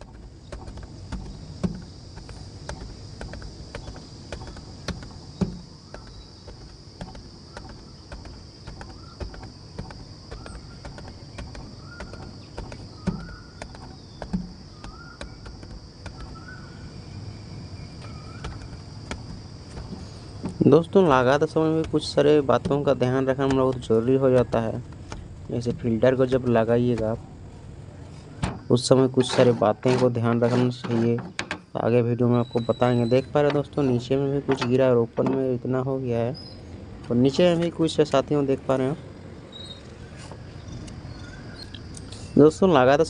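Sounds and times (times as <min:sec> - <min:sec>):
high insect drone: 0:00.0 - 0:43.0.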